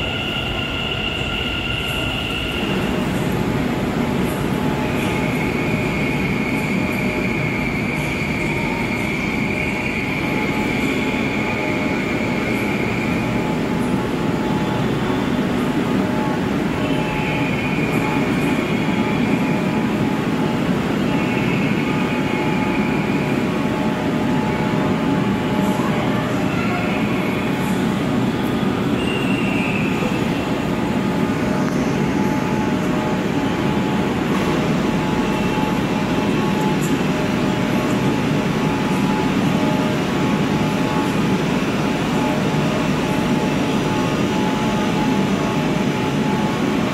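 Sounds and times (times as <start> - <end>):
train humming: 0.0 - 46.9.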